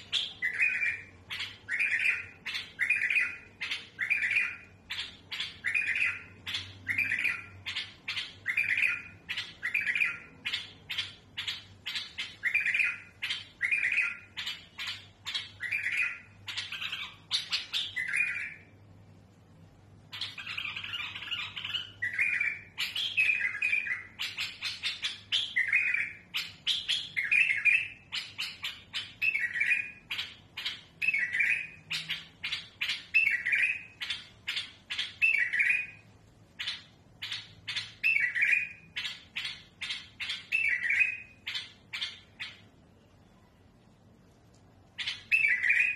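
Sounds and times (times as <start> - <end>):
bulbul singing harsh song: 0.0 - 18.8, 20.1 - 42.8, 45.0 - 45.9.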